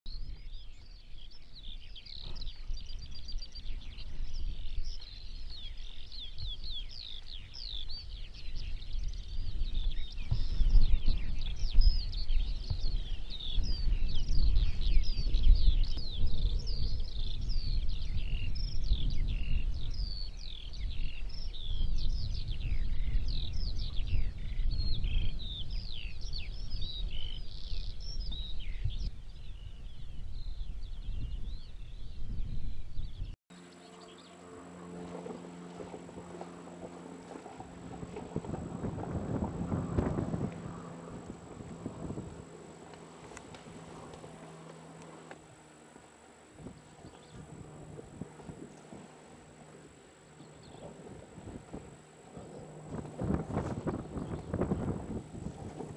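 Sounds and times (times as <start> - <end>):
wind rumble on microphone: 0.1 - 33.4, 34.9 - 55.9
small birds chirping: 0.1 - 38.9, 39.6 - 55.9.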